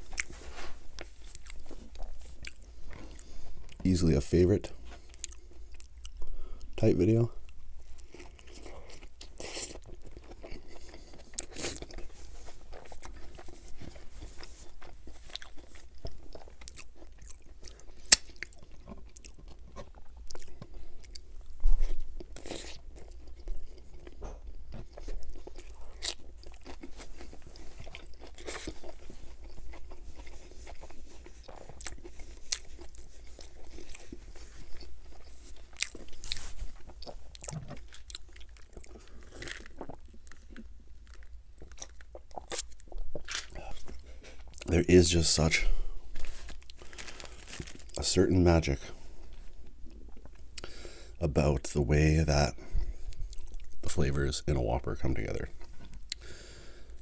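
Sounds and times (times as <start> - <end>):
chewing burger: 0.0 - 57.0.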